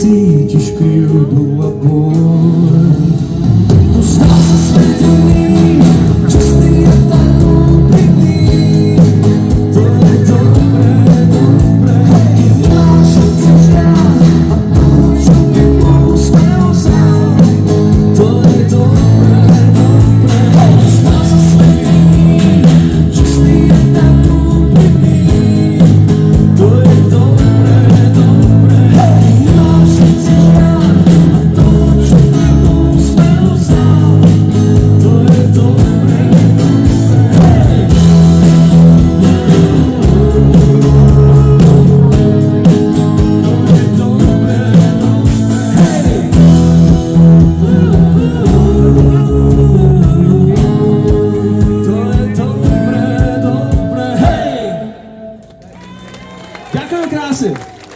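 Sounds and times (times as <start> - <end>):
rock band playing live: 0.0 - 57.9.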